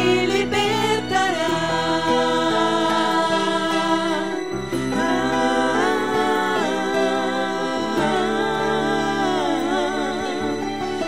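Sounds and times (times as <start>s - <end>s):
gospel vocal harmony: 0.0s - 11.0s
musical accompaniment: 0.0s - 11.0s.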